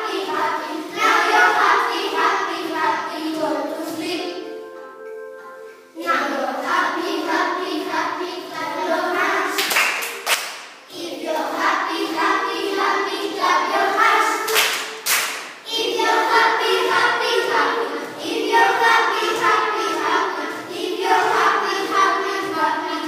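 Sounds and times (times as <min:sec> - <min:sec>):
children singing: 0:00.0 - 0:23.0.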